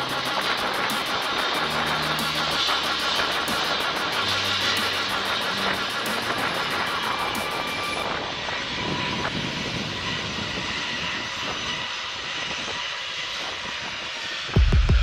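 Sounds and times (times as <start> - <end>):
faint high whine: 0.0 - 12.7
jet engines running: 0.0 - 15.0.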